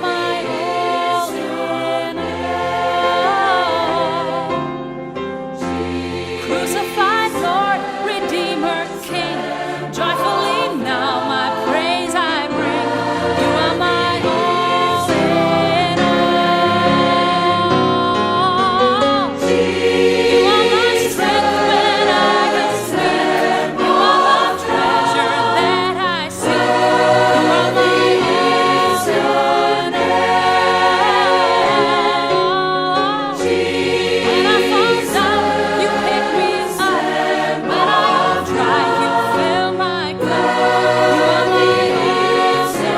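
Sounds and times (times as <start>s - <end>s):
choir singing sustained notes: 0.0s - 42.9s.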